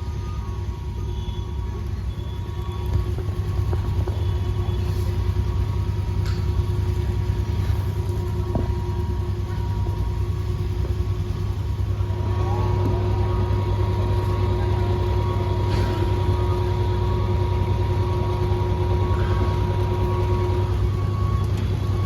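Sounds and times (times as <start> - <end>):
faint constant whine: 0.0 - 22.0
heat pump hum: 0.0 - 22.0.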